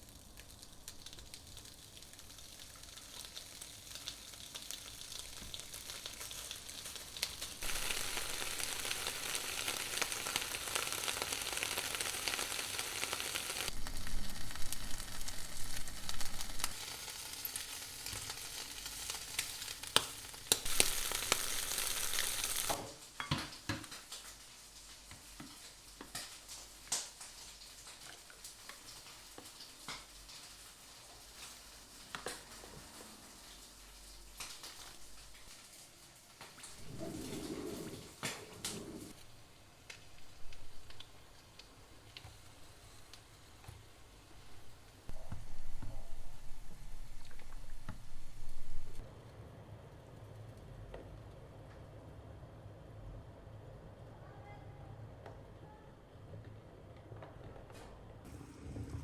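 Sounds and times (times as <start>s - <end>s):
food sizzling in a pan: 0.0s - 49.1s, 58.3s - 59.0s.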